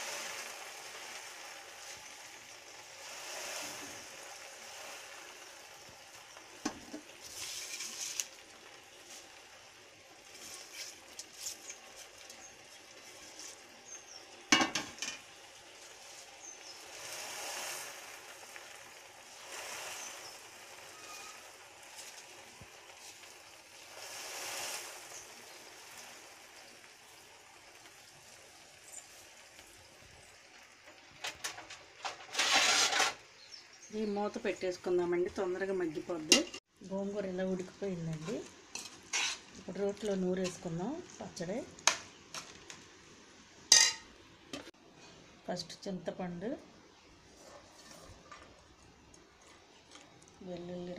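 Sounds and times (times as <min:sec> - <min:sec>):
leaves rustling in pot: 0:00.0 - 0:43.0, 0:46.4 - 0:50.9
soft sizzle: 0:00.0 - 0:50.9.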